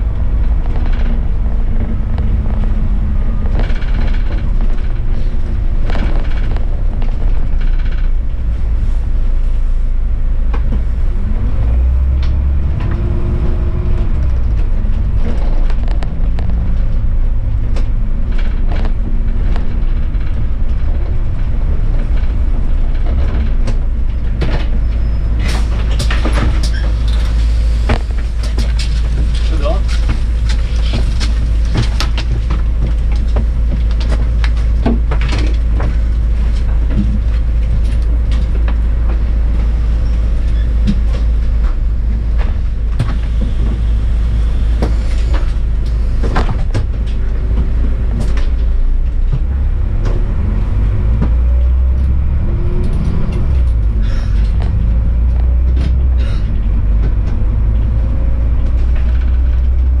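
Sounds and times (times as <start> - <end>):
bus engine rumble: 0.0 - 60.0
knocks and rattles: 0.0 - 60.0.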